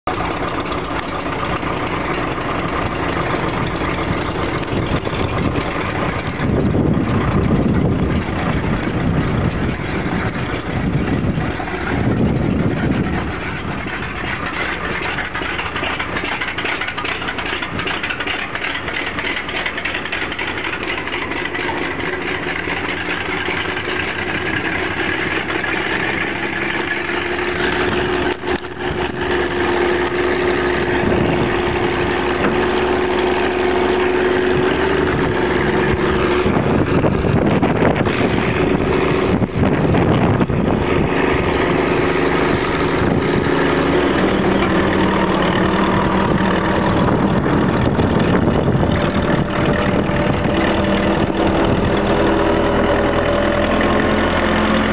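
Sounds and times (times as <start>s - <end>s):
crane engine idling: 0.1s - 54.9s.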